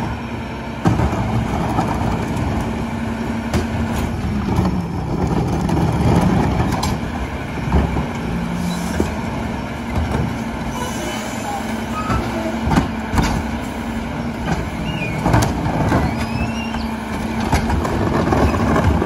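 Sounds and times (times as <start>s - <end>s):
garbage truck engine and hydraulics: 0.0s - 19.0s
cart clanking: 0.8s - 19.0s.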